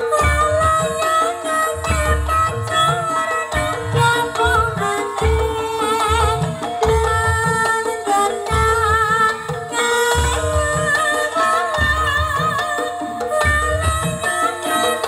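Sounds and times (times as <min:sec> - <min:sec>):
gamelan melody: 0:00.0 - 0:15.0
hand drums beating: 0:00.0 - 0:15.0.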